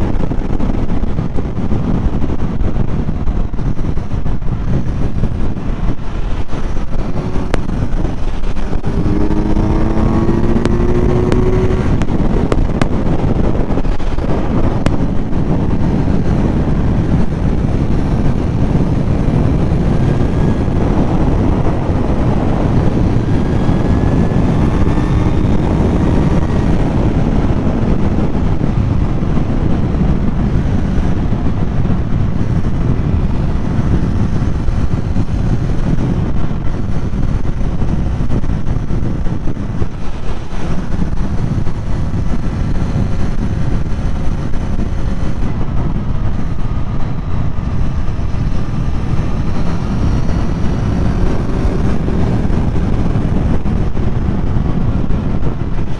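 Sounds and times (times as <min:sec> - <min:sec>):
motorcycle engine running: 0:00.0 - 0:55.9
wind rushing on microphone: 0:00.0 - 0:55.9.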